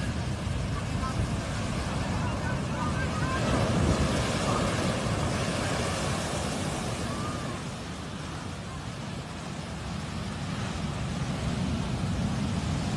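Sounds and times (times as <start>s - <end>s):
ocean surf washing: 0.0s - 12.9s
wind rumbling on microphone: 0.0s - 12.9s.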